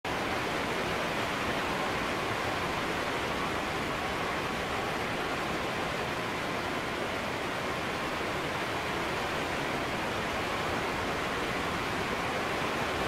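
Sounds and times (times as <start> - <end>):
wind rustling leaves and branches: 0.1 - 13.0.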